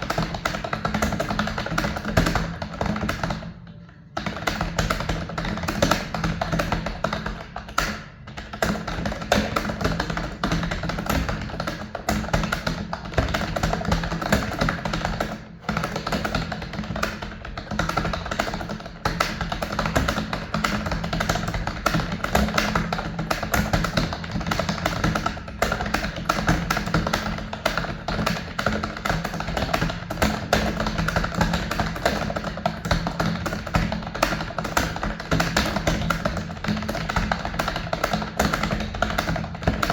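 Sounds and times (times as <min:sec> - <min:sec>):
fast typing on keyboard: 0:00.0 - 0:03.4, 0:04.2 - 0:39.9.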